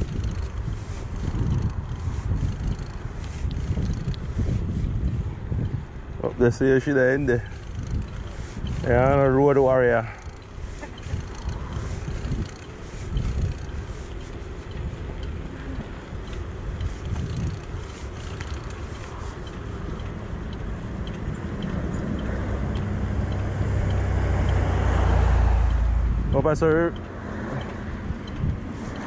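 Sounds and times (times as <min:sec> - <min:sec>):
motor vehicle engine hum: 0:00.0 - 0:29.0
wind rumble on microphone: 0:00.0 - 0:29.0.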